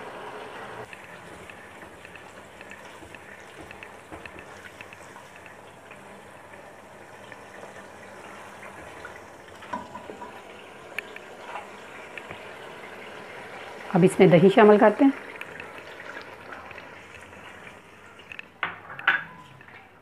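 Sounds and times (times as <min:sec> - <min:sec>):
masala sizzling in oil: 0:00.0 - 0:18.6.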